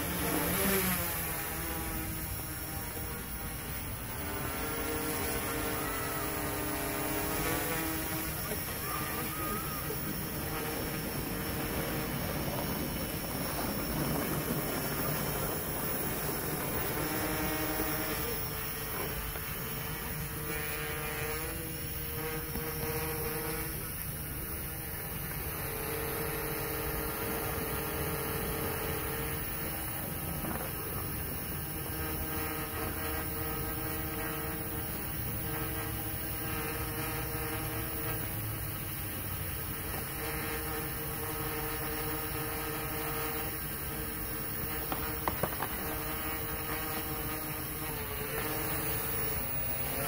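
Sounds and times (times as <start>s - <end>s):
constant hiss: 0.0s - 50.0s
drone propellers buzzing: 0.0s - 50.0s.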